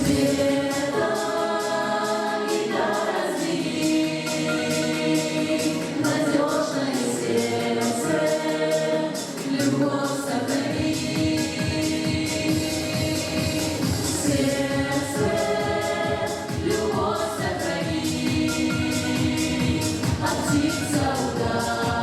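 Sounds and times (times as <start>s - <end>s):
backing track with steady beat: 0.0s - 22.0s
vocal ensemble singing in harmony: 0.0s - 22.0s.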